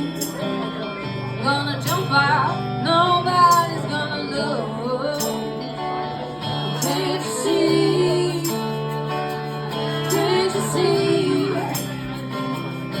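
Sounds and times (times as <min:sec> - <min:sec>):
country-rock band with guitar: 0:00.0 - 0:13.0.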